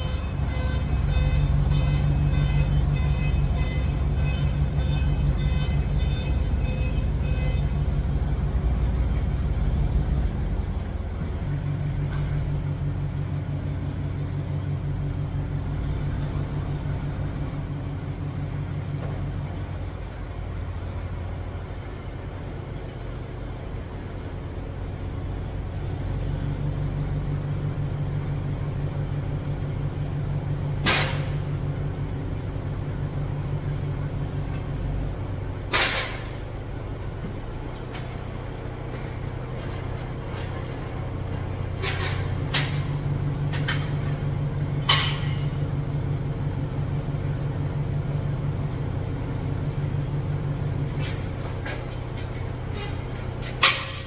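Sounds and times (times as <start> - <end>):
engine rumbling: 0.0 - 54.0.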